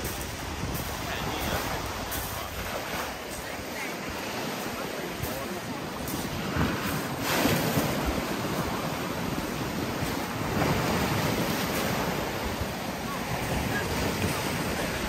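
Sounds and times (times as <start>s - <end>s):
surf breaking against rocks: 0.0s - 15.0s
wind buffeting microphone: 0.0s - 15.0s.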